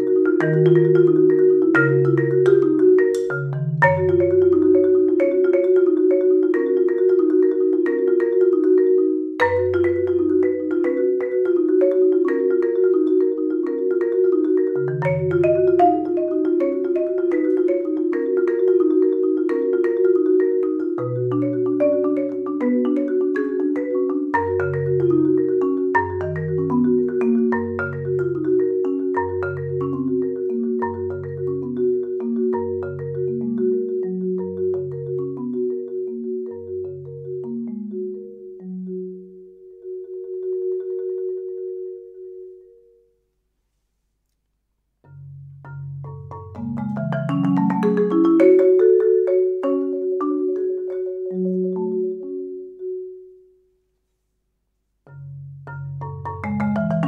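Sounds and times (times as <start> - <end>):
marimba playing: 0.0 - 43.0, 45.1 - 53.6, 55.1 - 57.0.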